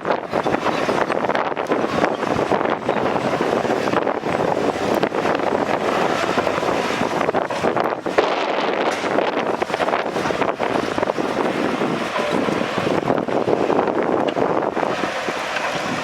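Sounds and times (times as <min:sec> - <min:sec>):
diesel engine running: 0:00.0 - 0:16.0
wind buffeting microphone: 0:00.0 - 0:16.0.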